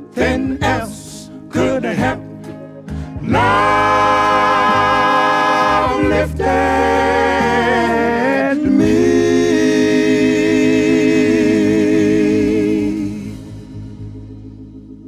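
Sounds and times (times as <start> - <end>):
male vocal group singing in harmony: 0.0 - 13.6.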